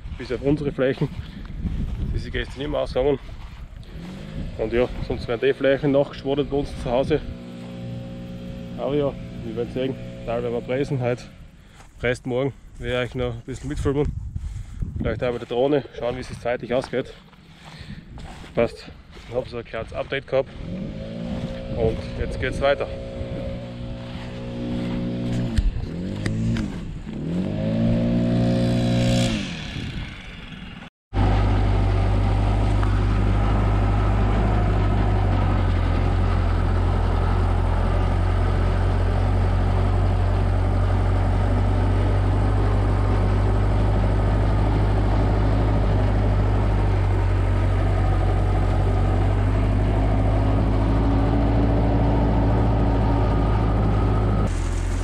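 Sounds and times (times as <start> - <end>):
tractor engine running: 0.0 - 14.0, 15.2 - 55.0.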